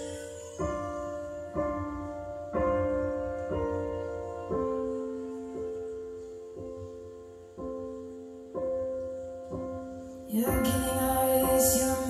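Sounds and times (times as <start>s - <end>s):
slow piano chords over loudspeakers: 0.0s - 12.0s.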